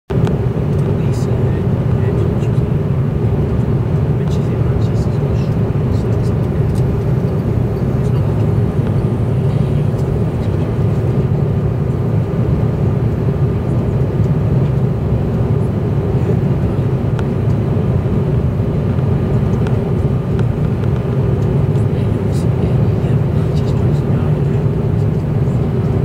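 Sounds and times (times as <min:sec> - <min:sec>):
airliner engine and airflow rumble: 0:00.1 - 0:26.0
faint steady hum: 0:00.1 - 0:26.0.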